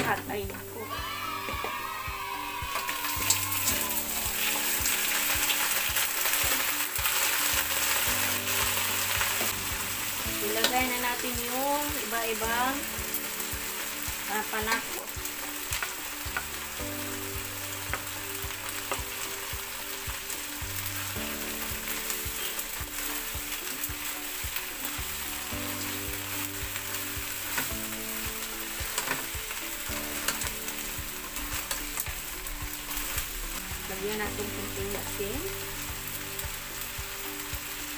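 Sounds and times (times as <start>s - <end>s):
crabs sizzling in a pan: 0.0s - 37.9s.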